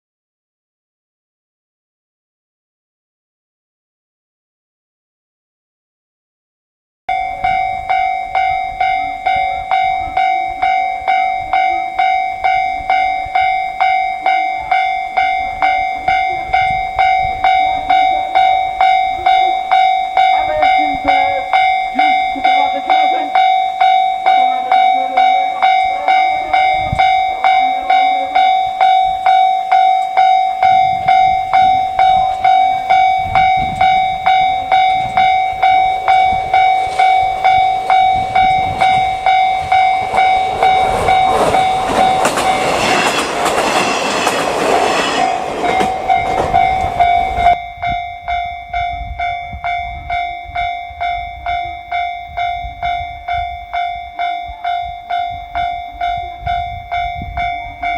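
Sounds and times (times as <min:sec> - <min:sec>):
level-crossing alarm ringing: 0:07.1 - 0:57.9
train rumble and wheel clatter: 0:07.1 - 0:57.9.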